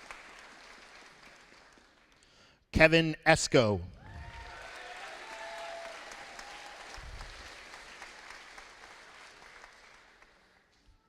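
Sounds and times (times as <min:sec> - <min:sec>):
audience applauding: 0:00.0 - 0:02.2, 0:04.0 - 0:10.8.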